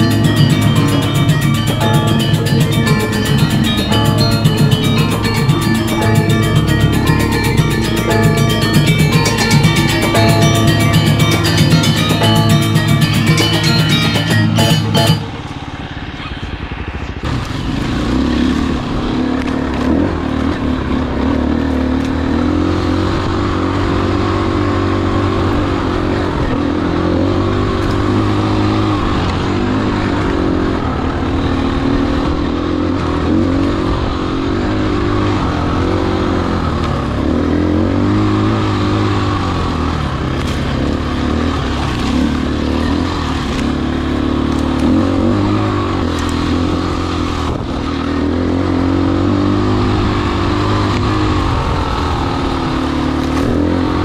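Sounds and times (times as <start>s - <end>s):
dirt bike engine revving: 0.0s - 16.0s, 17.1s - 54.0s.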